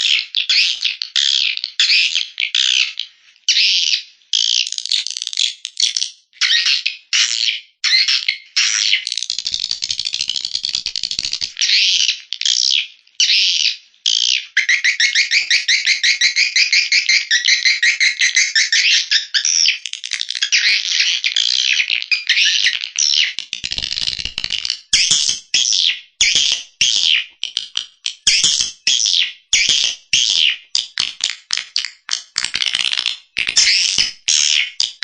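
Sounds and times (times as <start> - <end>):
recorded bird chirps and trills: 0.0 - 35.0.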